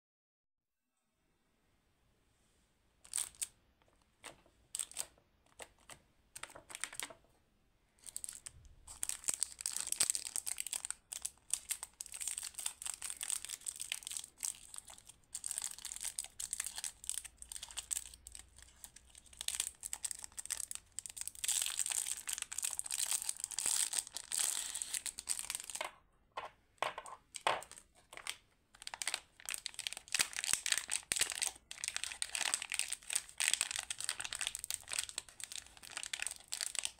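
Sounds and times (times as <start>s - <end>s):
plastic wrappers crinkling: 3.0s - 3.5s, 4.2s - 7.1s, 8.0s - 25.9s, 26.8s - 36.9s.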